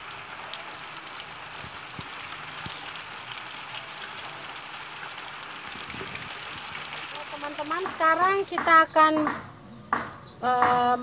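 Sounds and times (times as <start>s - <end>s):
banana slices deep-frying in oil: 0.0s - 8.9s.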